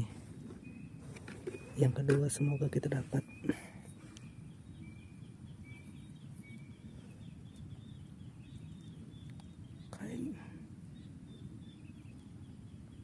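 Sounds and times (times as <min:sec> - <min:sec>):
bird chirping: 0:00.0 - 0:13.0
low steady rumble: 0:00.0 - 0:13.0.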